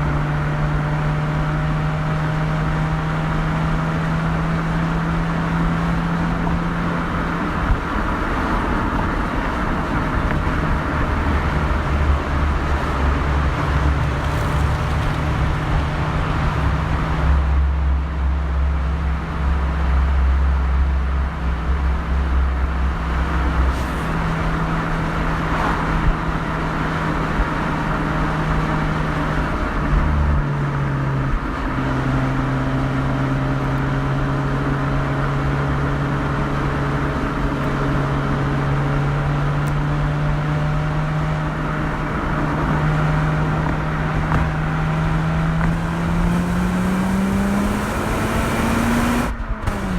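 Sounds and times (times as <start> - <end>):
road noise: 0.0 - 49.9
rotary engine and exhaust: 0.0 - 49.9.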